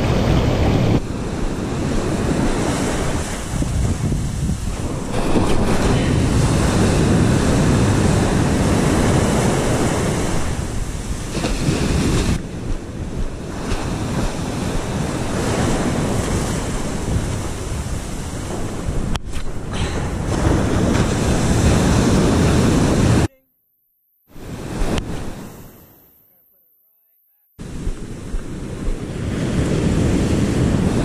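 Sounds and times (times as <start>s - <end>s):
ocean surf breaking: 0.0s - 23.3s, 24.3s - 26.1s, 27.6s - 31.0s
wind rumbling on microphone: 0.0s - 23.3s, 24.3s - 26.0s, 27.6s - 31.0s.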